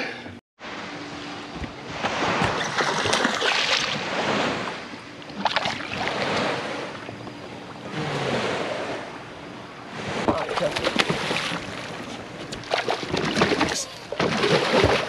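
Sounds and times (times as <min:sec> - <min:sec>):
water splashing against boat hull: 0:01.5 - 0:09.1, 0:10.0 - 0:15.0.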